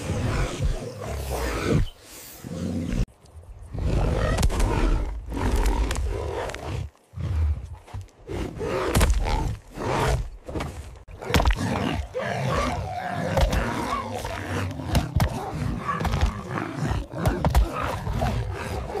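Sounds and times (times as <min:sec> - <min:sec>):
animals snarling and roaring: 0:00.0 - 0:03.1, 0:03.7 - 0:19.0.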